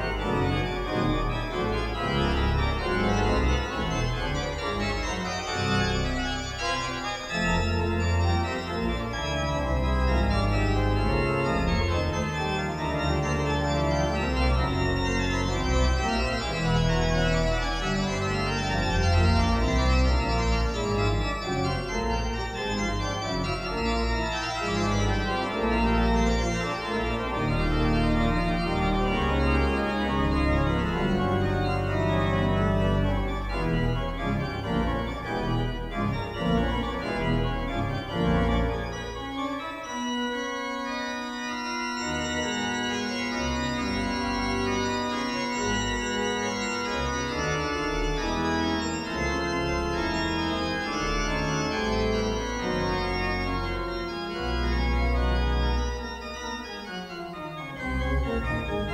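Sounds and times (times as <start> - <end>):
pipe organ playing: 0.0 - 58.9.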